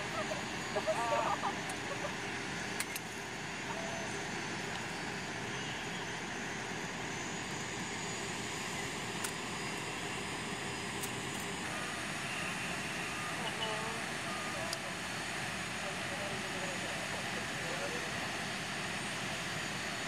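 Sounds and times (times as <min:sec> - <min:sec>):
jet aircraft rush and whine: 0:00.0 - 0:20.0.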